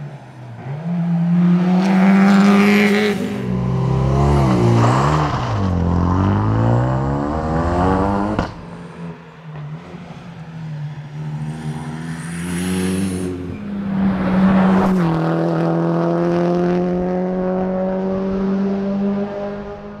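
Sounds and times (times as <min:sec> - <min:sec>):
rally car engines revving: 0:00.0 - 0:20.0.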